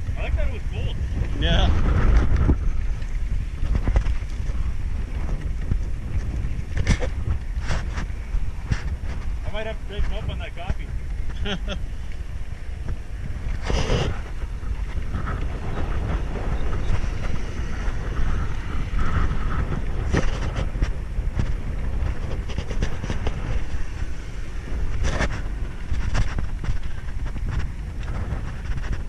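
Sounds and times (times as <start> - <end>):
bicycle rattling over rough ground: 0.0 - 29.0
wind buffeting microphone: 0.0 - 29.0.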